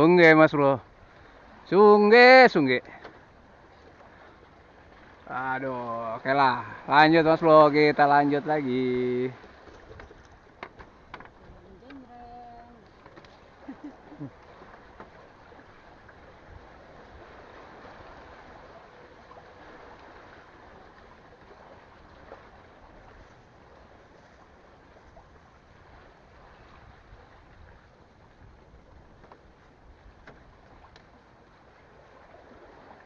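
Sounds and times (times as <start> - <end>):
sea water washing: 0.0 - 33.0.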